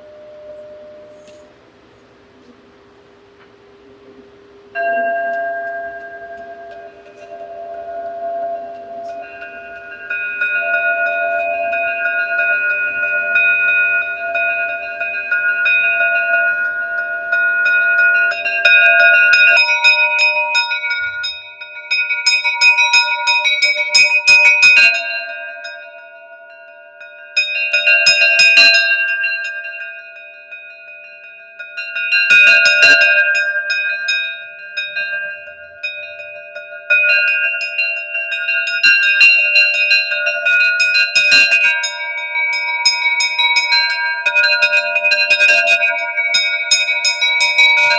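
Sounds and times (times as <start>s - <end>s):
metal bells ringing: 0.0s - 47.9s.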